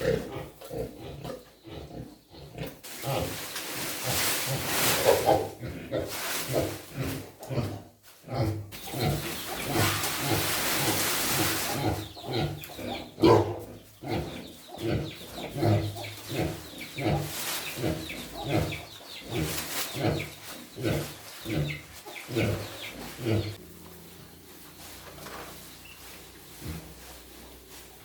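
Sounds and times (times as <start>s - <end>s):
pig grunting: 0.0s - 24.5s.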